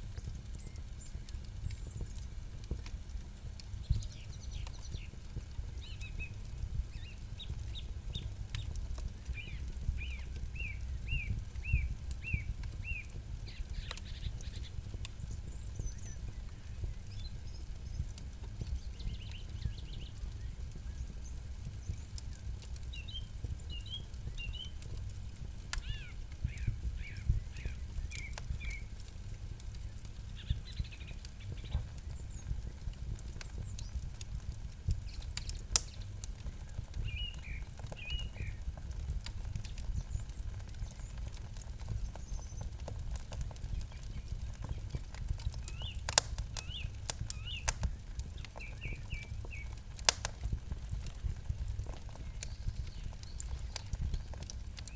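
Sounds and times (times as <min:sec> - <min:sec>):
campfire crackling and popping: 0:00.0 - 0:54.9
low rumble of burning fire: 0:00.0 - 0:54.9
small birds chirping: 0:00.0 - 0:54.9.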